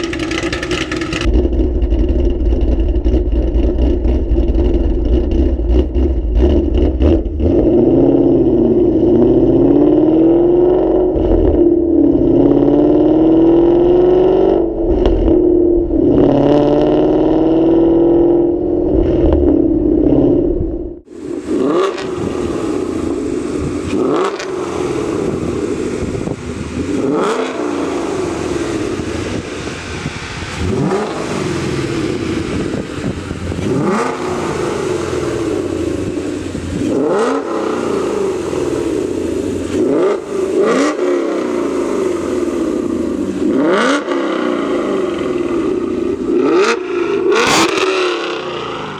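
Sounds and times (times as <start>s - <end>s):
car engine revving through exhaust: 0.0s - 48.9s.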